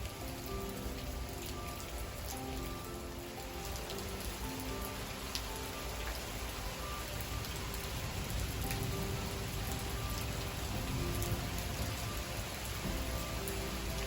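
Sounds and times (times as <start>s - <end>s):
faint soft melody: 0.0s - 14.0s
steady rain: 0.0s - 14.0s.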